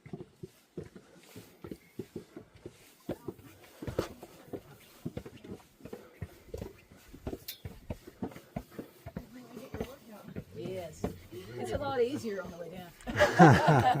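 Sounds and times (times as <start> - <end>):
footsteps on stone stairs: 0.0 - 14.0.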